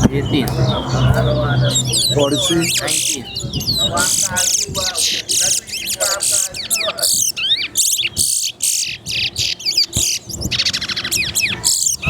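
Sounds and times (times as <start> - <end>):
finch singing: 0.0 - 12.0.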